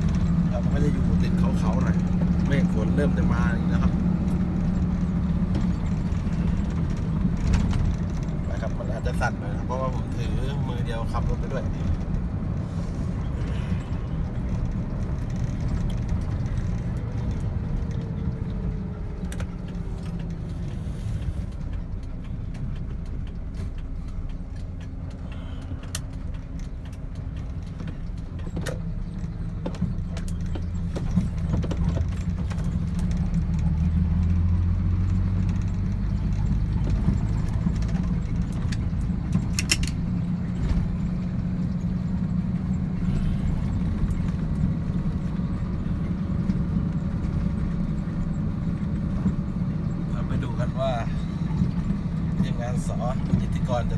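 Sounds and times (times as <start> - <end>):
rattles and knocks: 0.0 - 53.9
vehicle engine running: 0.0 - 53.9.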